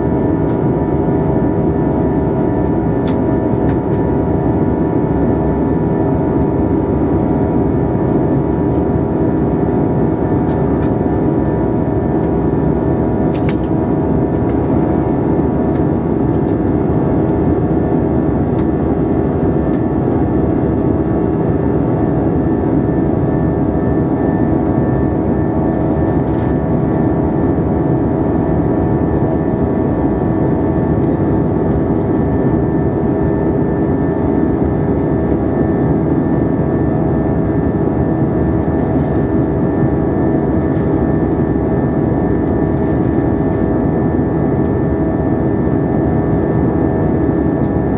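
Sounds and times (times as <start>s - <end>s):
aircraft cabin engine hum: 0.0s - 47.9s.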